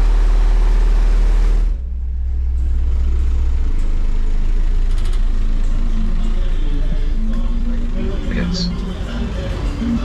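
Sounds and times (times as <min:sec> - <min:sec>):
deep subwoofer bass tone: 0:00.0 - 0:09.1.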